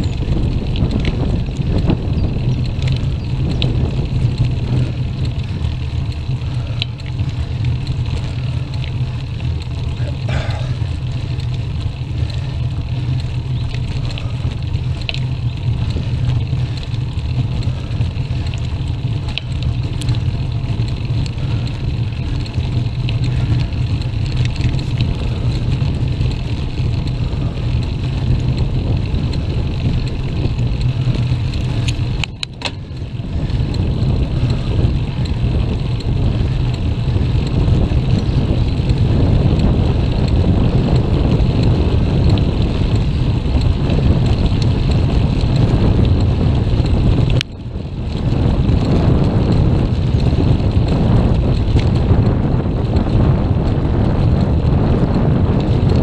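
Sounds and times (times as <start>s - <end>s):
tyre road noise: 0.0s - 56.0s
wind buffeting microphone: 0.0s - 56.0s.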